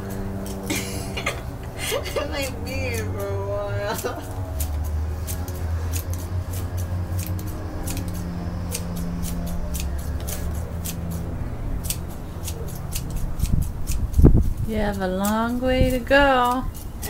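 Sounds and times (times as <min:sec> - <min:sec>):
scissors snipping grass: 0:00.0 - 0:17.0
steady low hum: 0:00.0 - 0:17.0.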